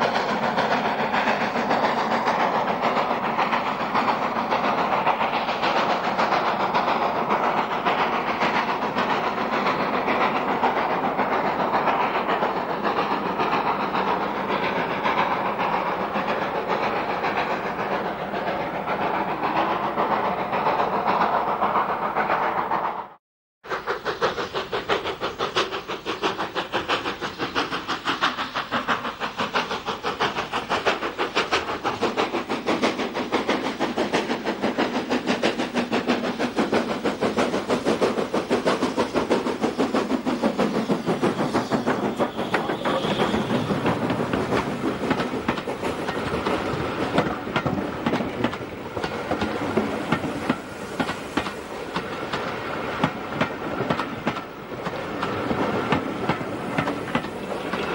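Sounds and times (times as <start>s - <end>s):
steam locomotive chuffing: 0.0s - 57.9s
train wheels clacking over rail joints: 0.0s - 57.9s.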